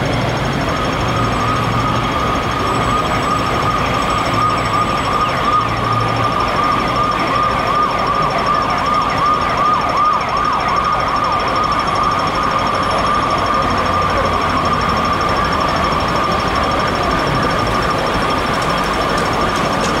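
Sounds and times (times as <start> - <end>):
emergency siren wailing: 0.0 - 20.0
engines rumbling: 0.0 - 20.0.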